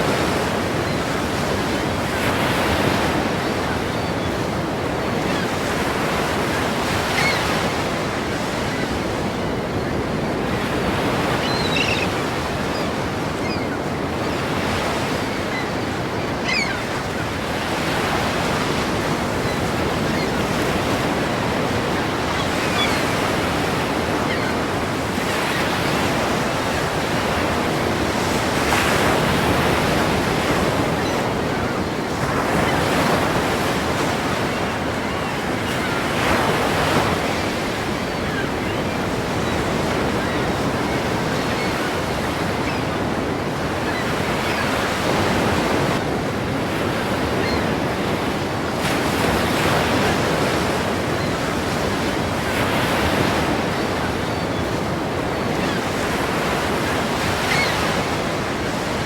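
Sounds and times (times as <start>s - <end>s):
ocean waves crashing: 0.0s - 59.0s.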